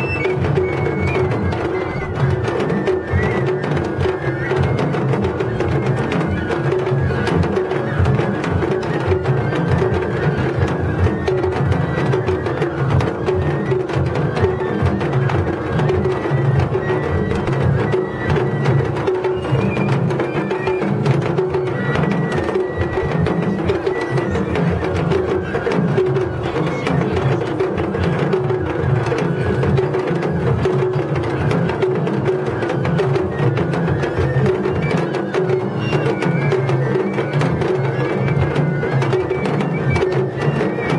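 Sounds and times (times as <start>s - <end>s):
taiko drums beating: 0.0s - 40.9s.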